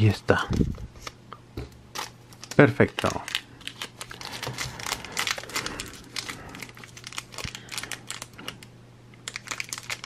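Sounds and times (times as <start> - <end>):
foil wrapper crinkling: 1.9 - 10.0.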